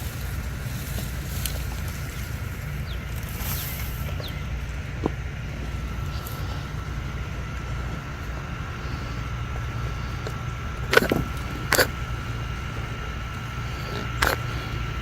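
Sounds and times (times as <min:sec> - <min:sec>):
faint high whine: 0:00.0 - 0:15.0
steady low rumble: 0:00.0 - 0:15.0.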